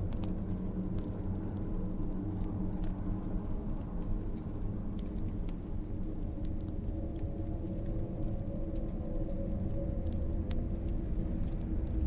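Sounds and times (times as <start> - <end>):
fire crackling: 0.0 - 12.0.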